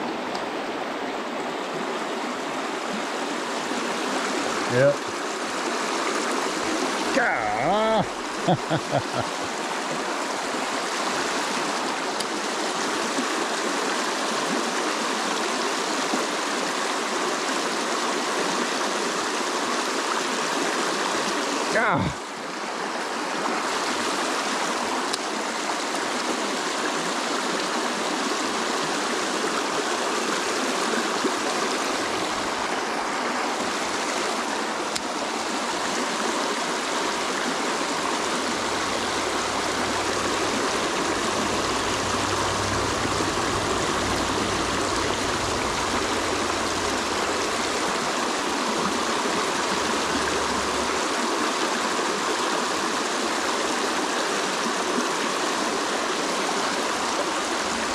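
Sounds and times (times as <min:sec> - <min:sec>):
stream rushing over stones: 0:00.0 - 0:57.9.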